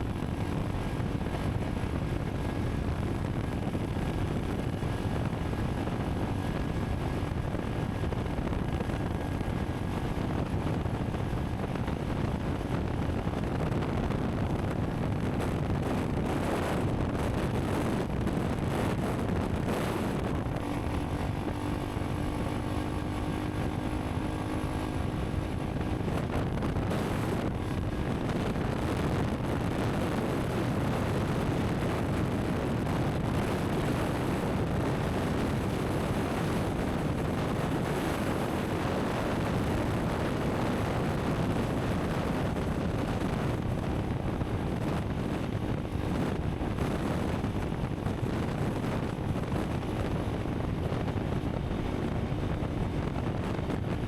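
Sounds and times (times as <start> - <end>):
motorcycle engine running: 0.0 - 54.0
road noise: 0.0 - 54.0
wind noise on microphone: 0.0 - 54.0.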